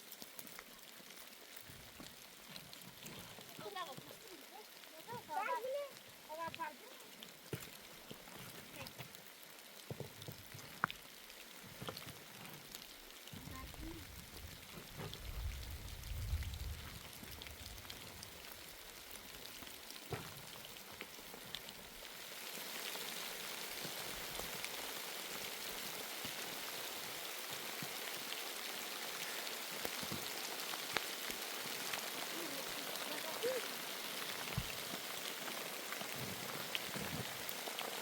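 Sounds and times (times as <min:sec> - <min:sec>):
raindrops ticking on surface: 0:00.0 - 0:38.0
steady rain falling: 0:00.0 - 0:38.0.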